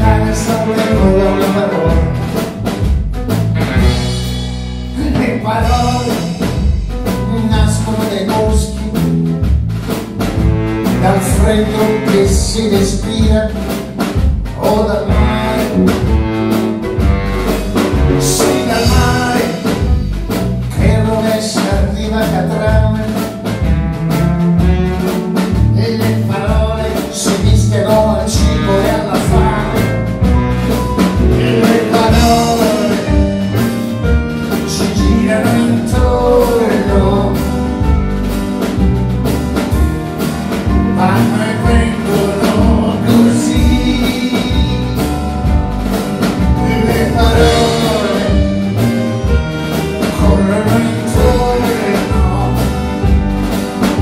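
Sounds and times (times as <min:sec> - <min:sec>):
live band playing instrumental: 0:00.0 - 0:54.0.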